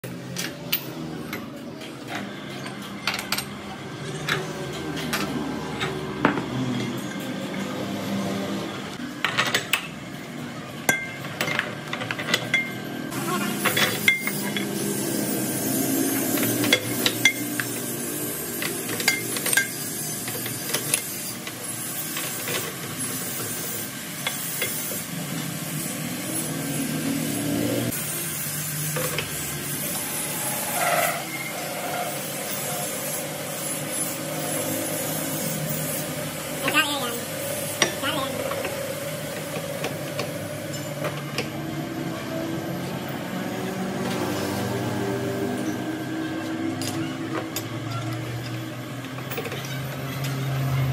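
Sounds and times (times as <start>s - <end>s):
steady workshop hum: 0.0s - 50.9s.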